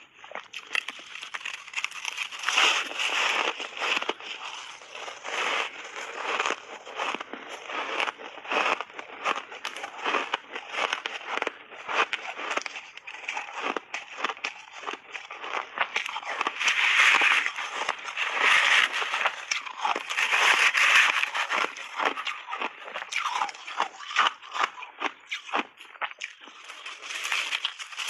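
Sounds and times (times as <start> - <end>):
person chewing crunchy ice: 0.0 - 28.0.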